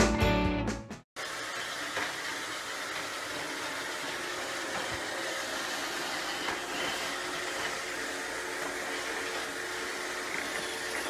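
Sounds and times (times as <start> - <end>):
robot vacuum humming: 1.2 - 11.0.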